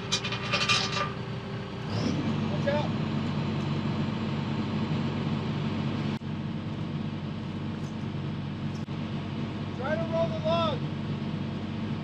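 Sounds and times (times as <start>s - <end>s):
excavator engine humming: 0.0s - 12.0s.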